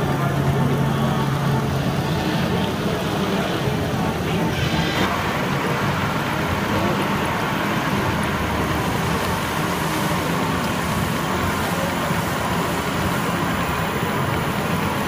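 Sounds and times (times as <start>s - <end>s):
busy hall with machinery running: 0.0s - 15.0s.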